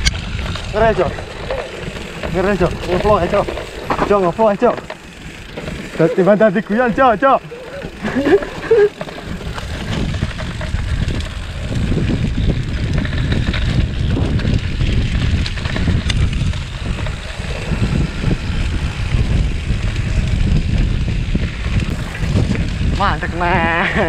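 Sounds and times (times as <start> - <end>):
bike rattling over rough trail: 0.0 - 24.0
wind buffeting microphone: 0.0 - 24.0.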